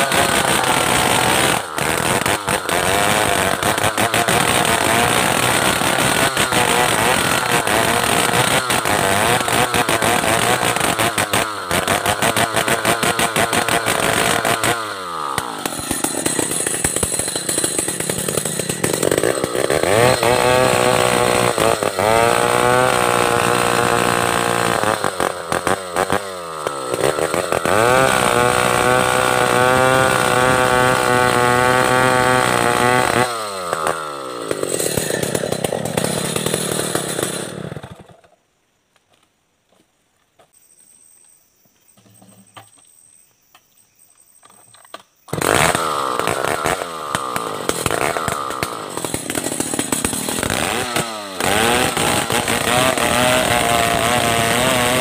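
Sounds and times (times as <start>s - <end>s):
chainsaw cutting a log: 0.0s - 38.3s, 45.3s - 55.0s.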